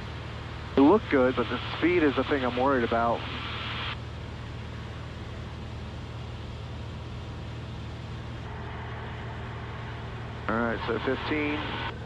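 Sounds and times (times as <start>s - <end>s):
airplane engine and propeller droning: 0.0s - 12.0s.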